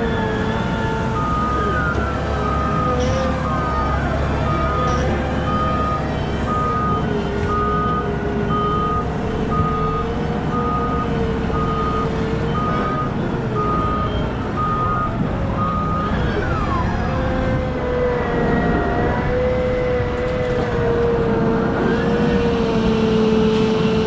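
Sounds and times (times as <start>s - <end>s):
reversing alarm beeping: 0.0s - 19.7s
diesel engine running: 0.0s - 24.0s.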